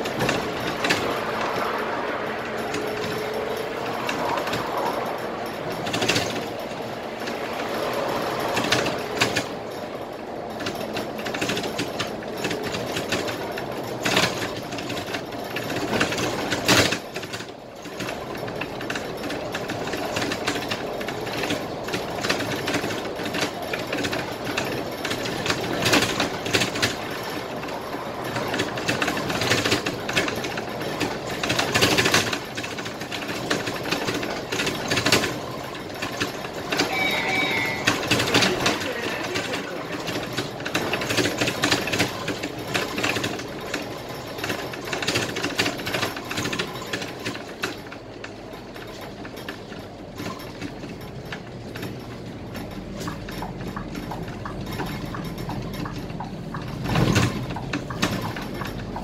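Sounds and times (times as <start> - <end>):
bodywork rattles and clunks: 0.0 - 59.0
bus engine and road rumble: 0.0 - 59.0.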